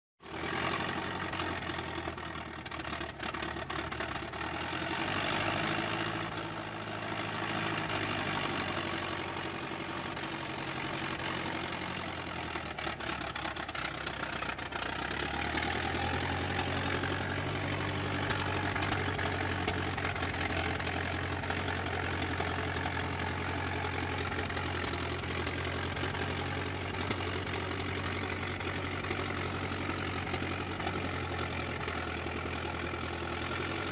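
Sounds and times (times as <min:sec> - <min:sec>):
old car engine running: 0:00.2 - 0:33.9.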